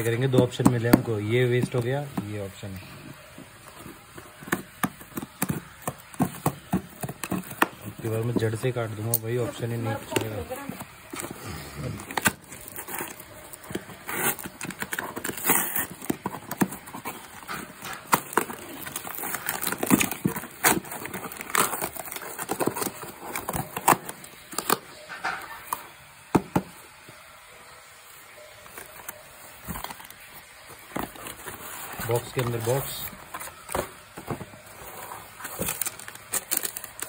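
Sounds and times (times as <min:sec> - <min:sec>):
packaging rustling and crackling: 0:00.0 - 0:37.0.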